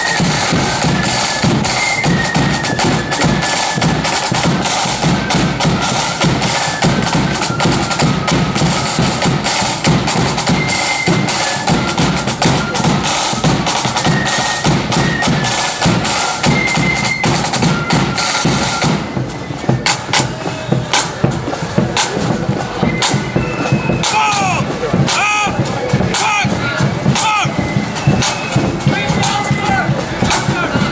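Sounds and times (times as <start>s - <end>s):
shrill flute melody: 0.0s - 30.9s
snare drumming: 0.0s - 30.9s
bass drum: 0.2s - 30.9s.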